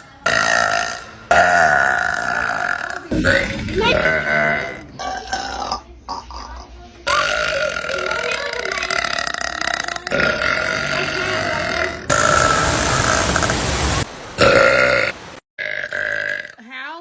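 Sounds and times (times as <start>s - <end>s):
woman burping: 0.2s - 12.6s, 14.4s - 16.8s.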